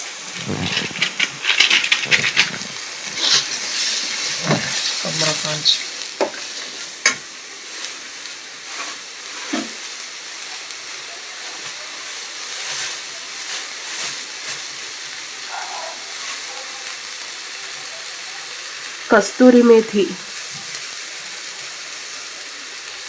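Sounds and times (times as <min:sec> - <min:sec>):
paste sizzling in oil: 0:00.0 - 0:23.0.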